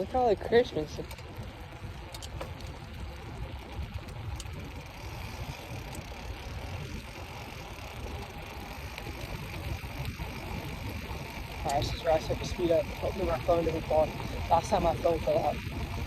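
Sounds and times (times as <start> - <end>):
tyres rolling on road: 0.0 - 16.0
wind buffeting microphone: 0.0 - 16.0.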